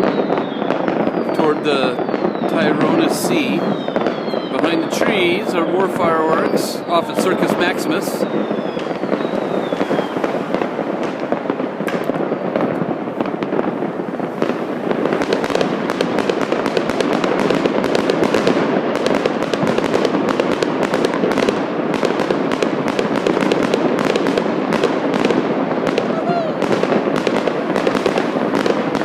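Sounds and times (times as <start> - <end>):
fireworks cracks and bangs: 0.0 - 29.0.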